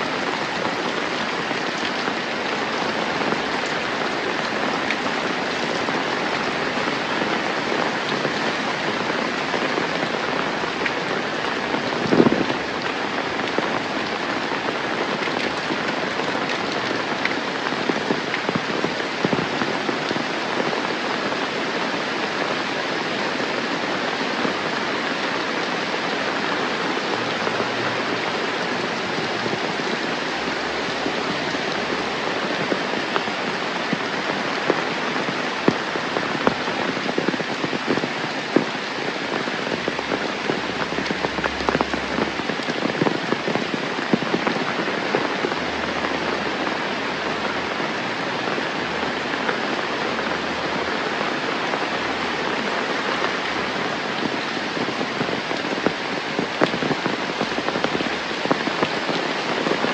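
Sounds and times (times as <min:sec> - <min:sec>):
raindrops ticking: 0:00.0 - 0:22.4, 0:24.1 - 0:59.9
steady rain falling: 0:00.0 - 0:59.9.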